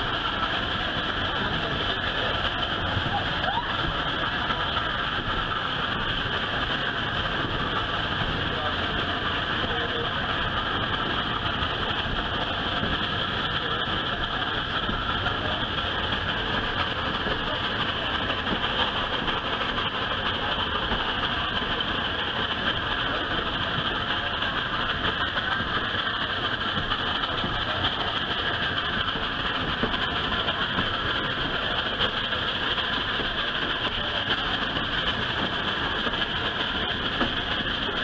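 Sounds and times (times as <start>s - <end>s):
steam train running on rails: 0.0s - 38.0s.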